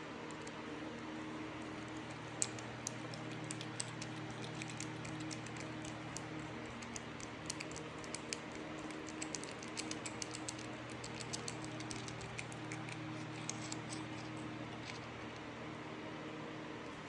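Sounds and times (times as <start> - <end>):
light ticks of metal cutting: 1.5 - 15.5.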